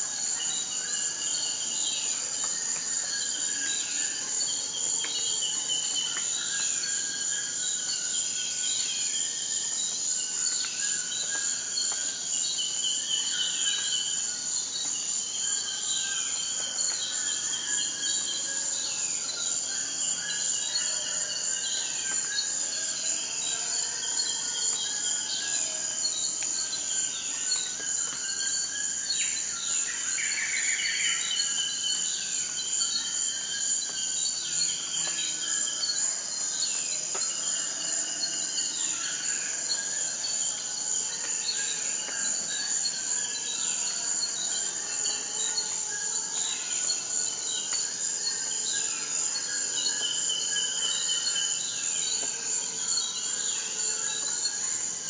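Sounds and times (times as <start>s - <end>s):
shrill insect chorus: 0.0s - 55.0s.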